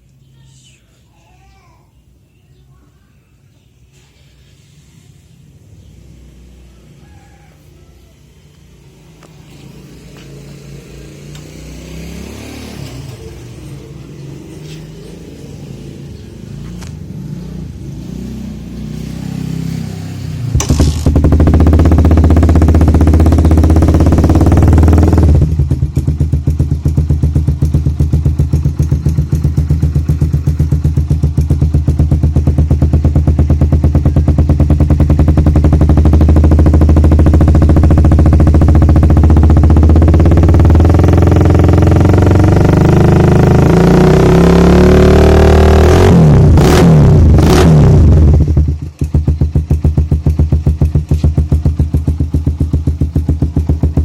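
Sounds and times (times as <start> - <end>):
motorcycle engine revving and idling: 4.9 - 54.0.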